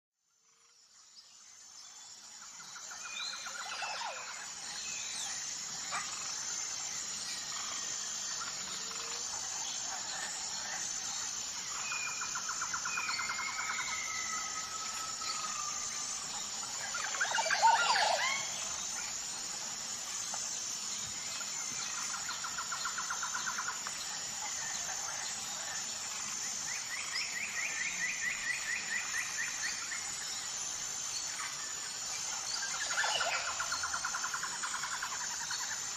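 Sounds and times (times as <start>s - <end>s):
background hiss: 0.4s - 35.9s.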